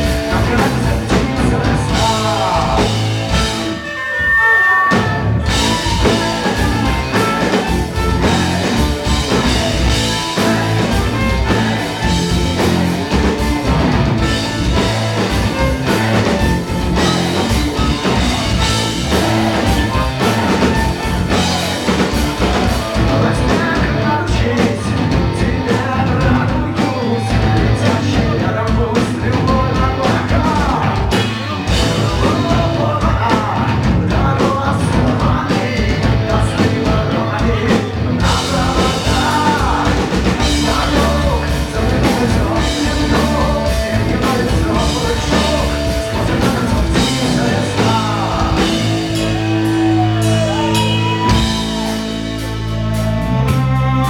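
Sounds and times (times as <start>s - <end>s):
bass guitar: 0.0s - 54.0s
drum kit: 0.0s - 54.0s
electric guitar: 0.0s - 54.0s
person singing: 0.0s - 54.0s.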